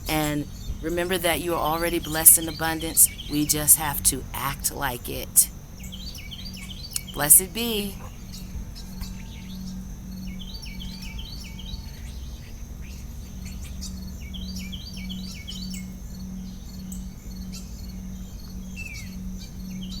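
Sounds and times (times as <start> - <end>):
crickets trilling: 0.0 - 20.0
low pulsing hum: 0.0 - 20.0
short insect chirps: 0.0 - 20.0.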